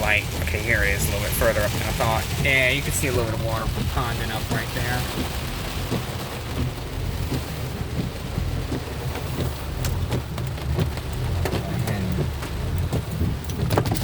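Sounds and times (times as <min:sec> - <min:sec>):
heavy rain on car roof: 0:00.0 - 0:14.0
steady low rumble: 0:00.0 - 0:14.0.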